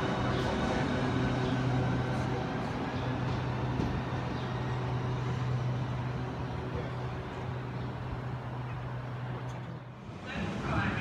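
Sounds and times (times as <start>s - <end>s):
electric train pulling away: 0.0s - 9.4s.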